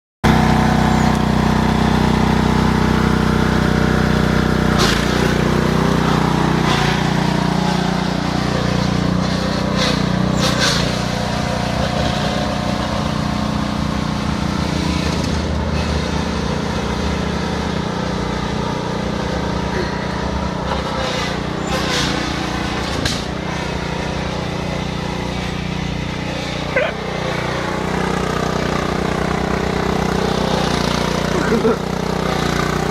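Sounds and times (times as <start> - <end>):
lawn tractor engine running: 0.2 - 32.9.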